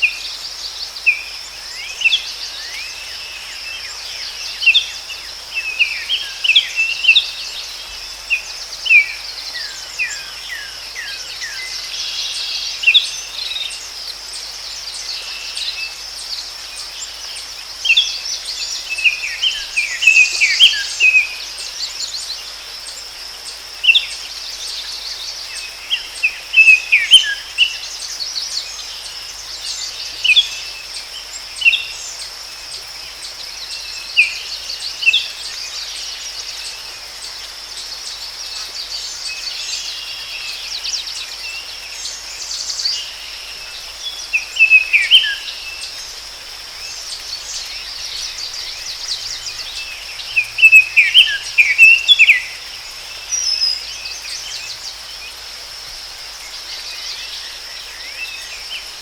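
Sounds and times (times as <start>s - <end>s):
high insect drone: 0.0s - 59.0s
songbirds chirping: 0.0s - 59.0s.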